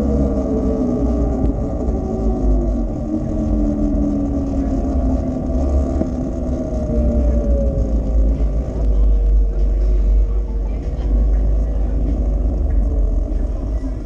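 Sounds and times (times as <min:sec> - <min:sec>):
electric motorbike motor whining: 0:00.0 - 0:14.0
wind rumble on microphone: 0:00.0 - 0:14.0.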